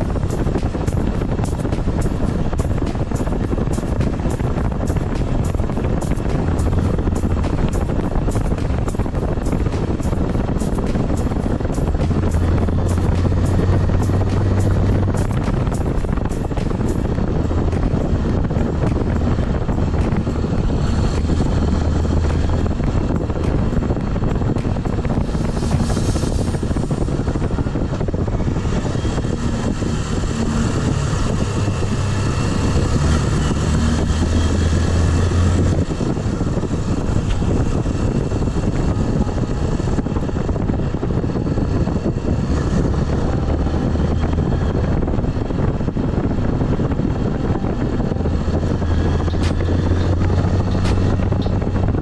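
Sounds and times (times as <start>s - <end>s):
motorcycle engine running: 0.0s - 52.0s
wind over microphone: 0.0s - 52.0s.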